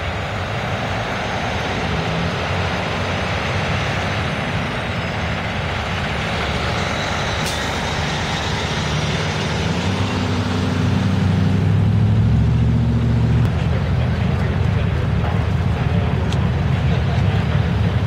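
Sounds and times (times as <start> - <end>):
cars driving past: 0.0 - 18.0
diesel truck driving past: 0.0 - 18.0.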